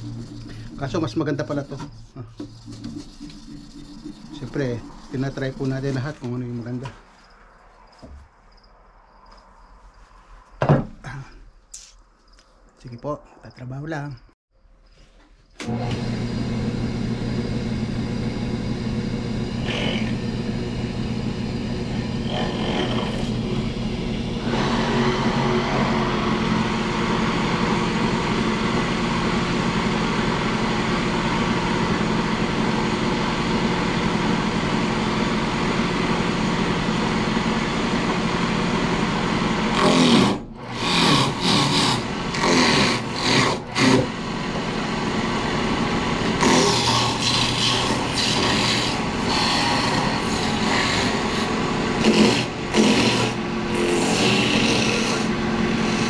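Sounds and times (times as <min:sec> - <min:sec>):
cutting machine running: 0:00.0 - 0:06.9, 0:15.6 - 0:56.0.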